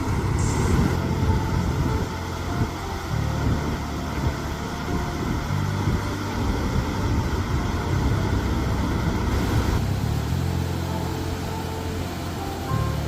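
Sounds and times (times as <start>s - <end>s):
soft background music: 0.0s - 13.0s
waterfall rumbling: 0.0s - 13.0s.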